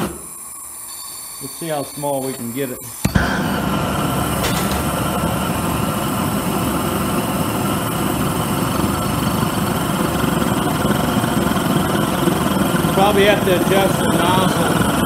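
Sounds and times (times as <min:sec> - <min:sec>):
forge burner rushing: 0:00.0 - 0:15.0.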